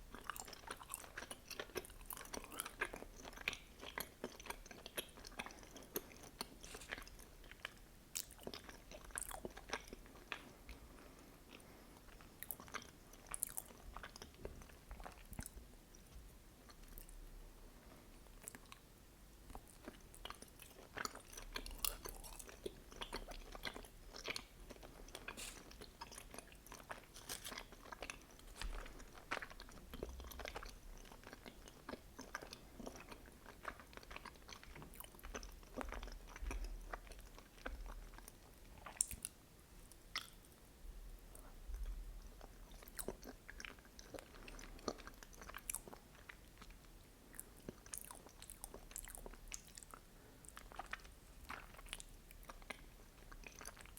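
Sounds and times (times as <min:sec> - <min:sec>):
wet chewing and mouth clicks: 0:00.1 - 0:17.2, 0:19.5 - 0:40.5, 0:41.3 - 0:53.9.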